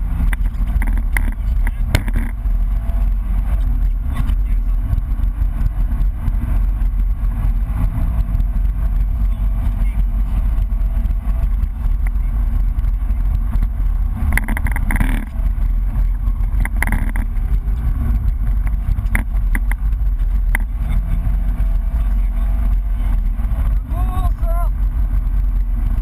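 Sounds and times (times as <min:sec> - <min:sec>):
car engine and road noise: 0:00.0 - 0:26.0
sharp knocks and rattles: 0:00.2 - 0:22.0.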